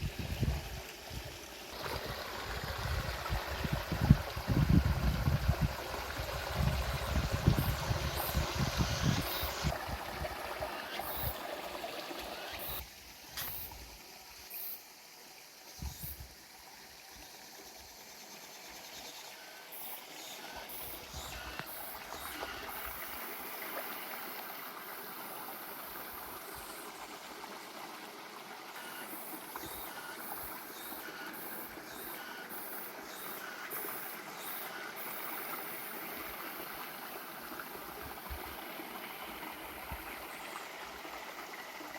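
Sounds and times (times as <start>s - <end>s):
water trickling and gurgling: 0.0s - 41.9s.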